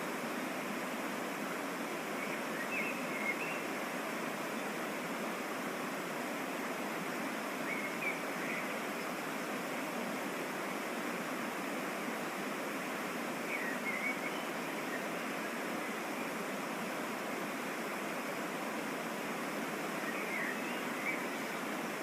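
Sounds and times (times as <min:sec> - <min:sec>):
waterfall and stream rushing: 0:00.0 - 0:22.0.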